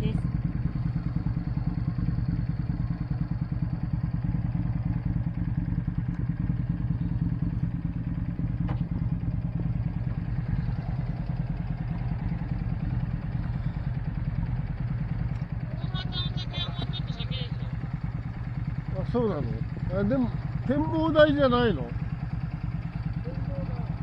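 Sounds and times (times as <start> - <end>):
car engine droning: 0.0 - 24.0
road noise: 0.0 - 24.0.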